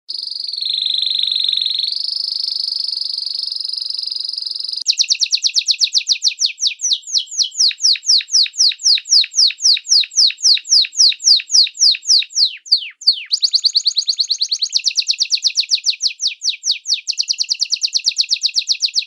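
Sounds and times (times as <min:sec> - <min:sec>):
songbird singing: 0:00.1 - 0:19.0.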